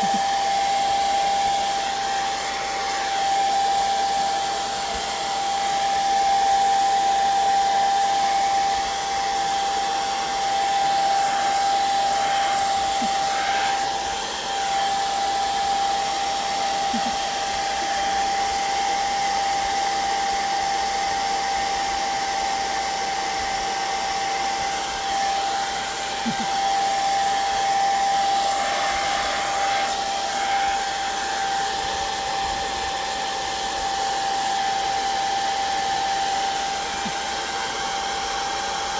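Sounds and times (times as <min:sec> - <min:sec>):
hot-air dryer blowing: 0:00.0 - 0:38.9.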